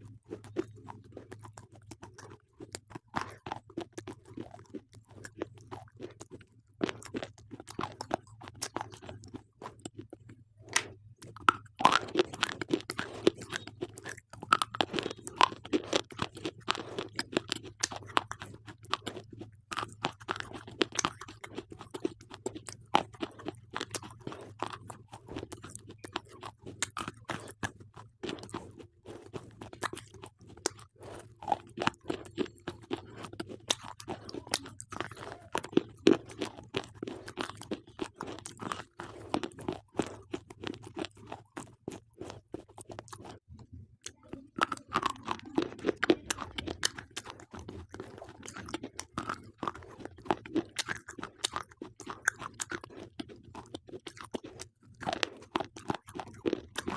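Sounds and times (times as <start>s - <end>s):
gritty crunches of chewing: 0.0s - 56.9s.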